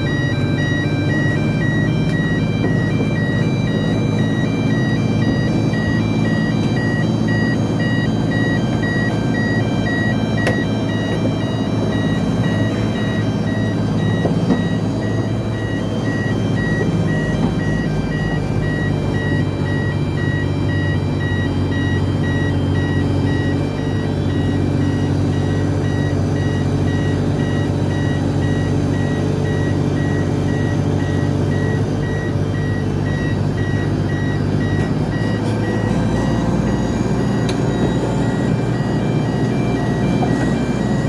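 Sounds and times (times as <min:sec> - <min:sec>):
construction vehicle engine running: 0:00.0 - 0:41.0
reversing alarm beeping: 0:00.0 - 0:41.0.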